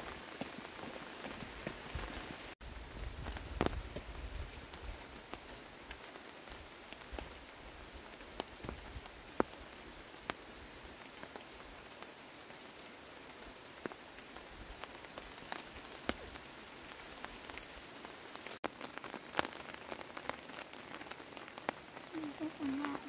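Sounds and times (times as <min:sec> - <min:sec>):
light rain hiss: 0:00.0 - 0:23.0
raindrops ticking: 0:00.0 - 0:23.0.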